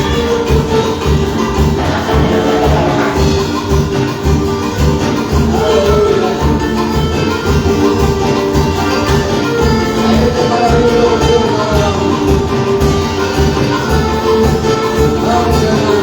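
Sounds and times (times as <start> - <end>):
live band playing latin praise music: 0.0 - 16.0.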